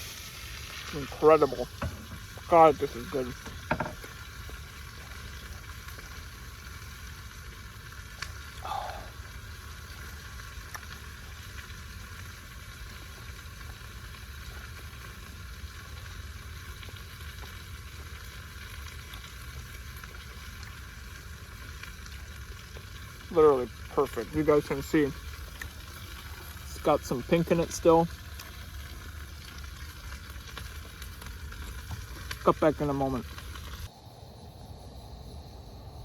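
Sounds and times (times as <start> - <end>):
meat sizzling on a grill: 0.0 - 33.9.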